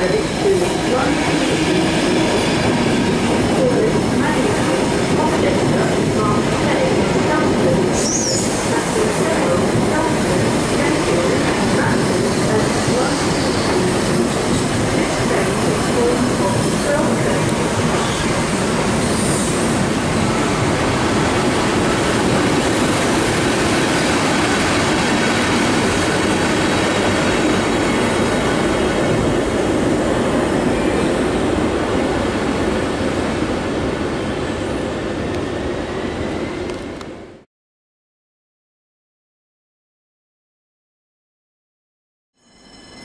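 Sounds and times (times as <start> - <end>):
train wheels rumbling on rail: 0.0 - 37.4.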